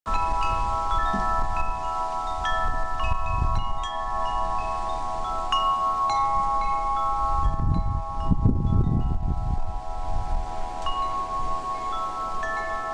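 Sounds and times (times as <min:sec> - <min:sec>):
low wind rumble: 0:00.1 - 0:12.6
wind chimes tinkling: 0:00.1 - 0:12.9.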